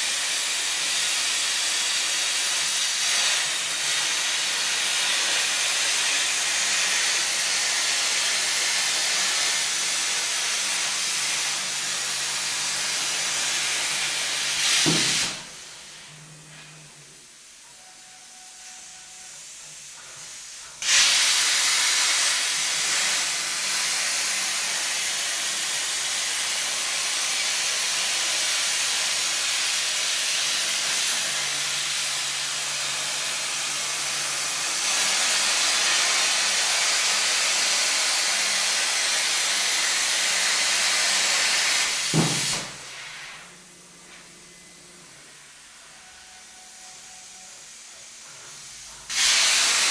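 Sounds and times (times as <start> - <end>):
plasma cutter torch hissing: 0.0 - 16.0, 18.6 - 43.7, 45.4 - 49.9.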